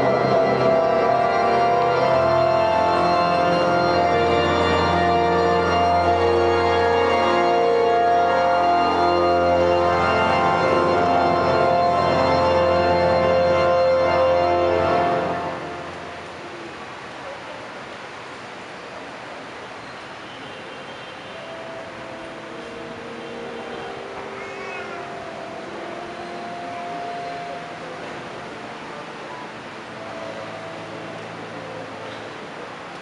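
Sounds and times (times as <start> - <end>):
organ playing sustained chords: 0.0 - 17.1, 21.4 - 33.0.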